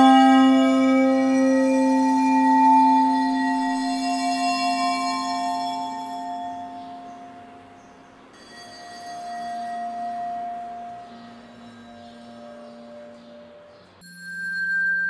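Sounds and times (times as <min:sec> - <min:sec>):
ringing glass percussion notes: 0:00.0 - 0:15.0.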